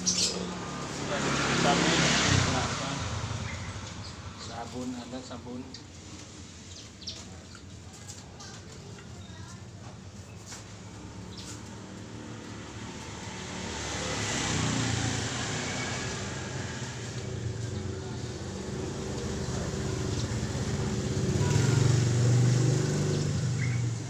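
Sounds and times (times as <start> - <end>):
vehicle engines passing: 0.0 - 24.0.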